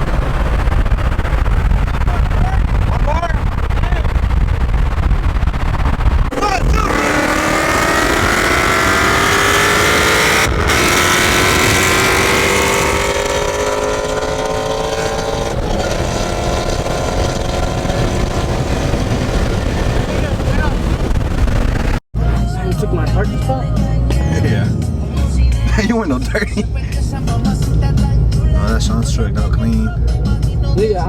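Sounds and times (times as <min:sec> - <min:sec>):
car engine accelerating: 0:00.0 - 0:31.0
wind and road rumble: 0:00.0 - 0:31.0.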